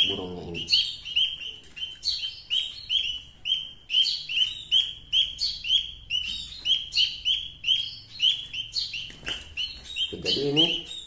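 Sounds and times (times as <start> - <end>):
young birds chirping: 0.0 - 11.0.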